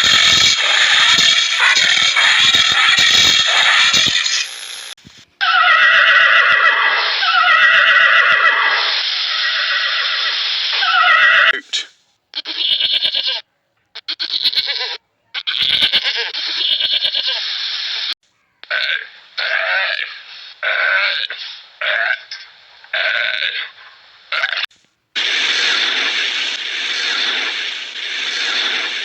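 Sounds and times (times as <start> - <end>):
animal calling: 0.0 - 4.8, 5.4 - 13.4, 14.0 - 29.0.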